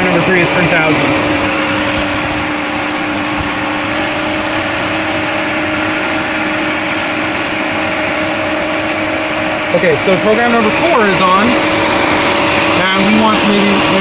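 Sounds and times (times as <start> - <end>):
pool pump running: 0.0 - 14.0.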